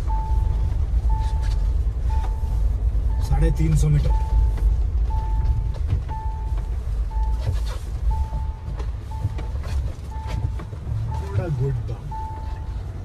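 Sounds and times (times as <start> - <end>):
electronic warning beep: 0.0 - 13.0
vehicle driving rumble: 0.0 - 13.0.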